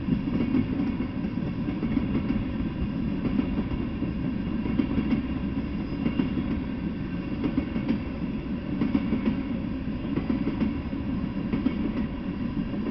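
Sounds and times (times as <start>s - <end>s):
freight train wheels rumbling: 0.0s - 12.9s.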